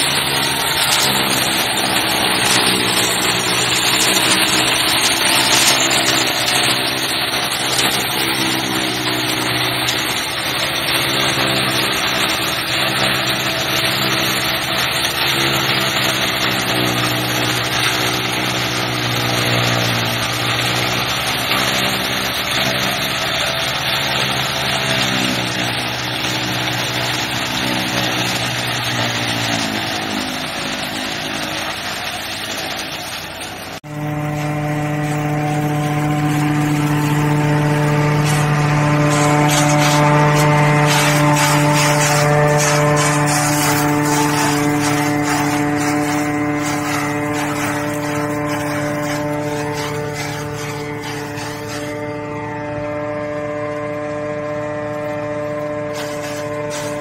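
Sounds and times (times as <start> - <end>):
shredder mechanical whirr: 0.0 - 57.0
tractor engine running: 0.0 - 57.0.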